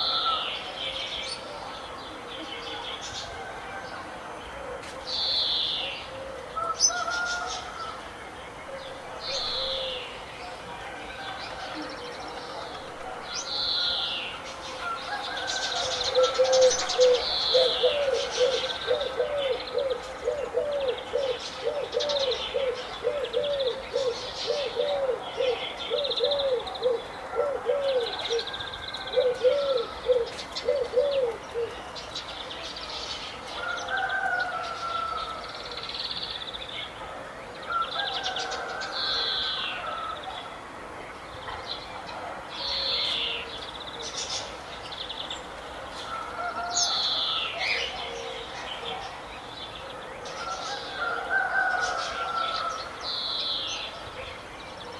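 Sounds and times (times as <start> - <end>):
birds chirping and trilling: 0.0 - 54.9.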